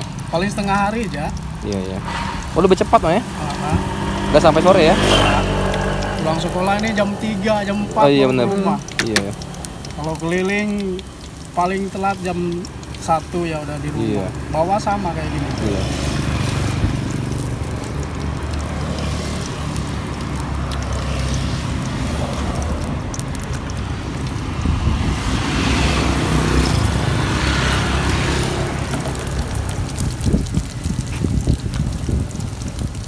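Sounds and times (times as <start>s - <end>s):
vehicle passing: 0.0s - 32.8s
road traffic rumble: 0.0s - 33.0s.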